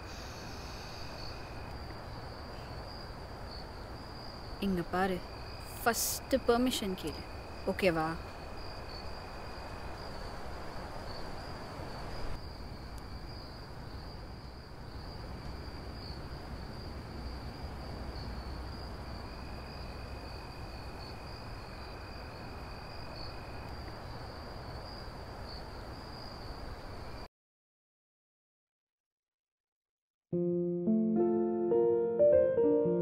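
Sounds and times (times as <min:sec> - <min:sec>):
crickets trilling: 0:00.0 - 0:27.3
lower insect trill: 0:00.0 - 0:27.3.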